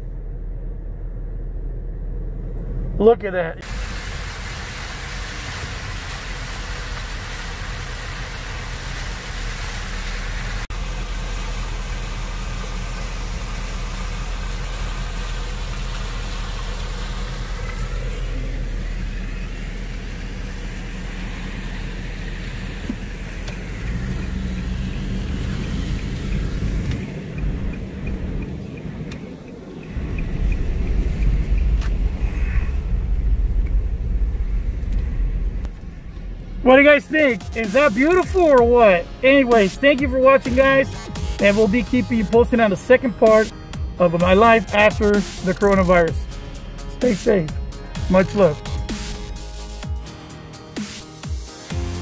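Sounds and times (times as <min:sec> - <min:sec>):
car engine running: 0:00.0 - 0:52.0
road noise inside car: 0:00.0 - 0:52.0.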